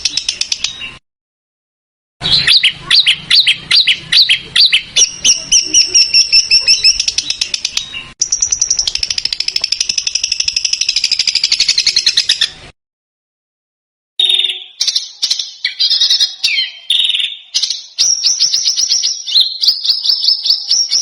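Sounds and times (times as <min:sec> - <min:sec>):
fast dense bird trill: 0:00.0 - 0:01.0, 0:02.2 - 0:12.7, 0:14.2 - 0:21.0
high repeated bird chirps: 0:00.0 - 0:01.0, 0:02.2 - 0:12.7, 0:14.2 - 0:21.0.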